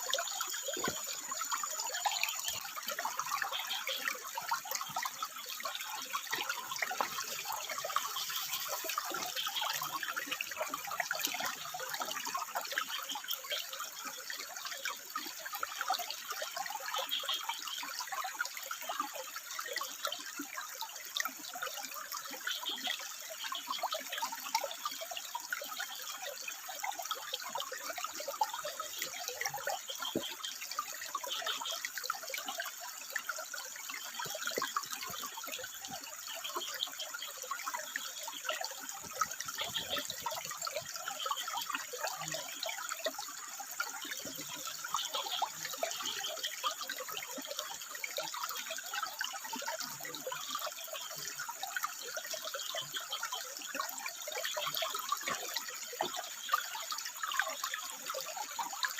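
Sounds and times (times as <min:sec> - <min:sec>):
water trickling over rocks: 0:00.0 - 0:58.9.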